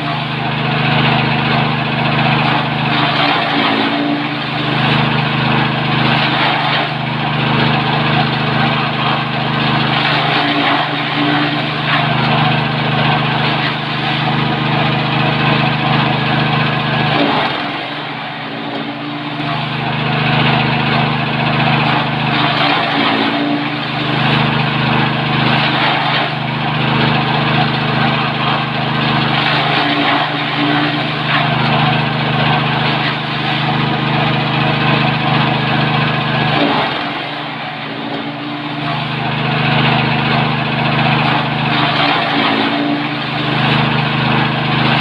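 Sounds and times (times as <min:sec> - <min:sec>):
petrol engine drone: 0:00.0 - 0:45.0
blades chopping corn stalks: 0:02.1 - 0:20.9, 0:21.5 - 0:45.0.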